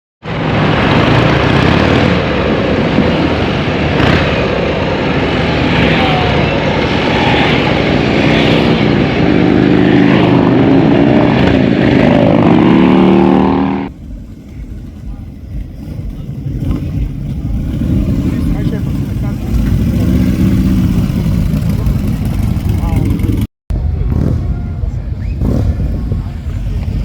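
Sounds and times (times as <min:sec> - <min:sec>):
motorcycle engine revving: 0:00.5 - 0:27.0.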